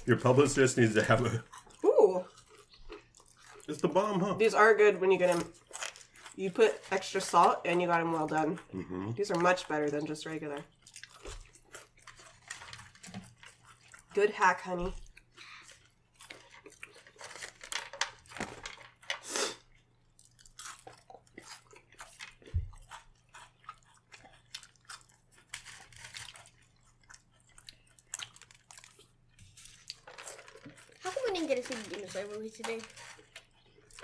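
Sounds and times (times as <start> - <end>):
chewing crispy fries: 0.0 - 34.0.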